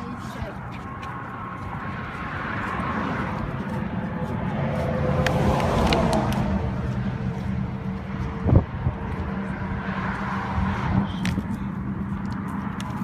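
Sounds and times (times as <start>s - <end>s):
vehicle driving past: 1.2s - 12.8s.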